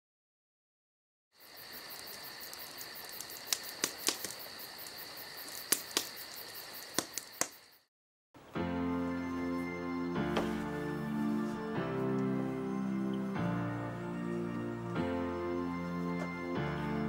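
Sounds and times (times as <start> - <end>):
crickets chirping: 1.4 - 7.9, 8.8 - 17.0.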